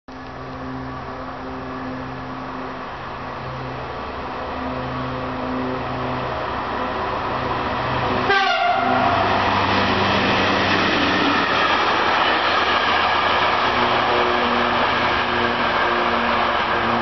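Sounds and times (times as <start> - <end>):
train engine: 0.1 - 17.0
train wheels on rails: 0.1 - 17.0.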